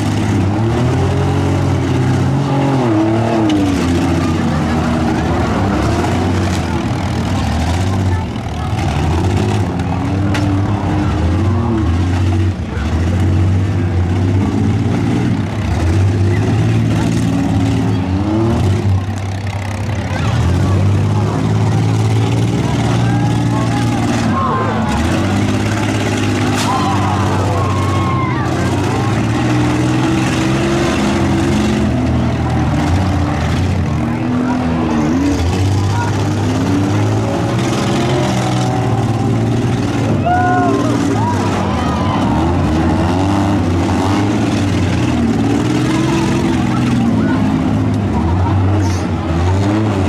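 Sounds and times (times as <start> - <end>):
car engines revving hard: 0.0 - 50.0.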